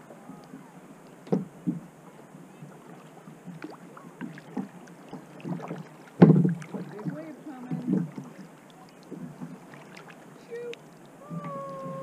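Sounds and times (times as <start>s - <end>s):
kayak paddle dipping in water: 0.0s - 12.0s
water lapping at hull: 0.0s - 12.0s.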